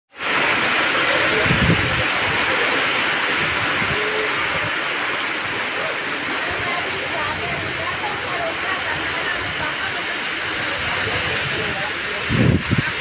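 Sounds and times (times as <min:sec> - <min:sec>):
heavy rain on concrete: 0:00.1 - 0:13.0.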